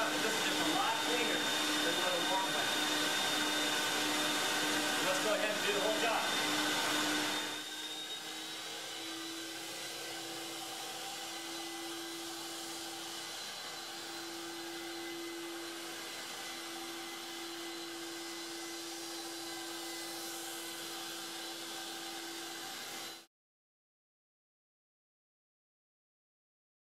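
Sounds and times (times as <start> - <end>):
vacuum motor whining: 0.0 - 23.2.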